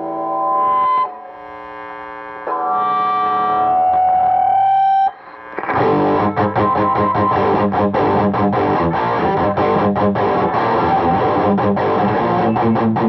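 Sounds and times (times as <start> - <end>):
distorted electric guitar riff: 0.0 - 13.0.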